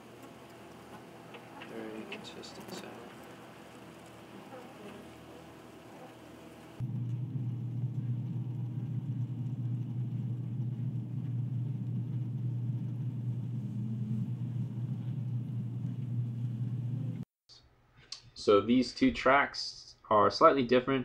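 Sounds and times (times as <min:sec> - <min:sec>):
honeybee colony humming: 0:00.0 - 0:17.2.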